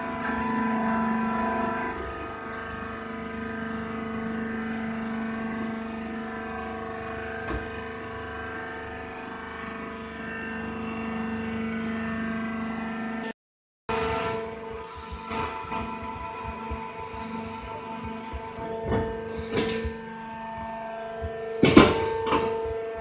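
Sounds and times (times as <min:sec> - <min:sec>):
hydraulic pump motor humming: 0:00.0 - 0:13.3, 0:13.9 - 0:23.0.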